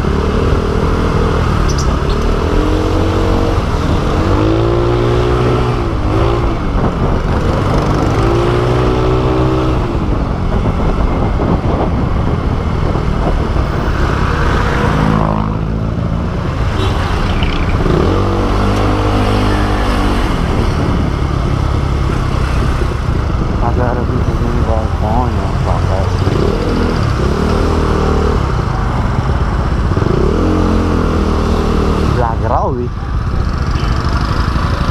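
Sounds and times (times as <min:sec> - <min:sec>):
road and wind noise: 0:00.0 - 0:34.9
vehicle engine accelerating: 0:00.0 - 0:34.9.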